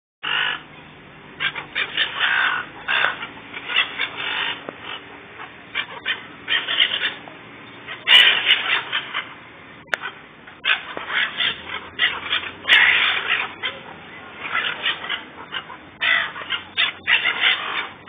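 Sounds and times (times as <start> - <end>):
gulls squawking: 0.2 - 18.0.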